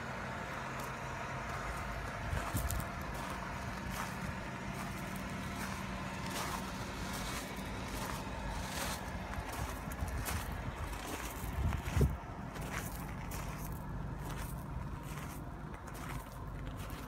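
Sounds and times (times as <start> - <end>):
car engine idling: 0.0 - 17.0
footsteps on gravel: 0.6 - 17.0.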